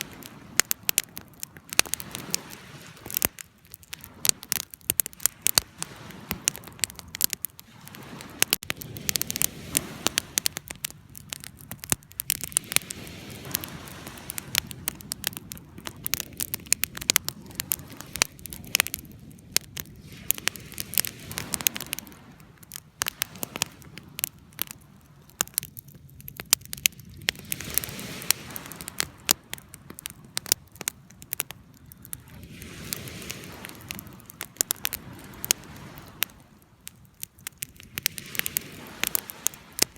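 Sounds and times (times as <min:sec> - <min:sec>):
flames rushing: 0:00.0 - 0:39.9
wood fire crackling: 0:00.0 - 0:39.9.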